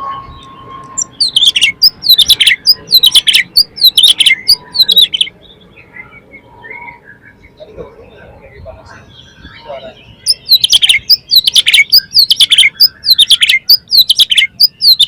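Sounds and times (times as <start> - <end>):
bird singing whistled notes: 0.0 - 7.7, 9.0 - 15.0.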